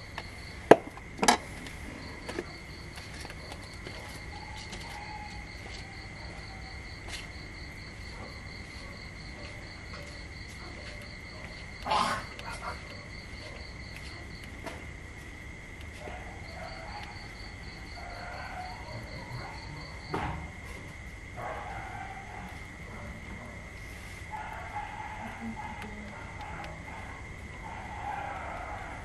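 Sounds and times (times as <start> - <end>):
insect high continuous trill: 0.0 - 29.0.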